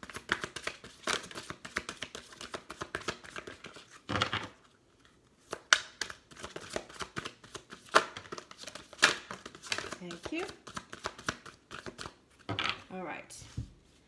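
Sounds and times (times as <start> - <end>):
cards being shuffled: 0.0 - 4.6, 5.4 - 12.2.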